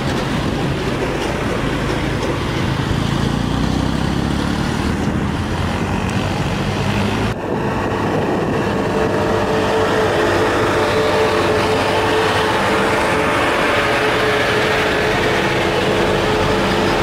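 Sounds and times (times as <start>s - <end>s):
truck diesel engines climbing: 0.0s - 17.0s.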